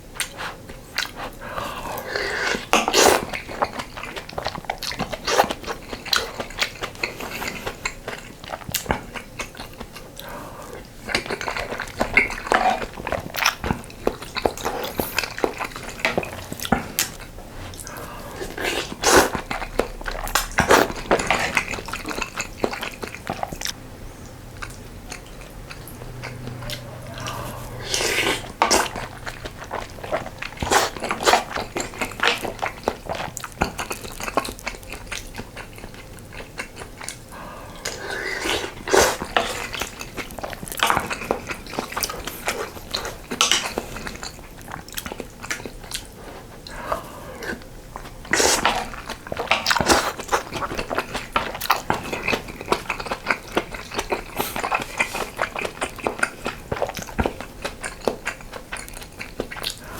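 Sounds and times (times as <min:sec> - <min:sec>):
loud eating noises: 0:00.0 - 0:59.9
chewing and mouth clicks: 0:00.1 - 0:23.8, 0:24.5 - 0:59.9.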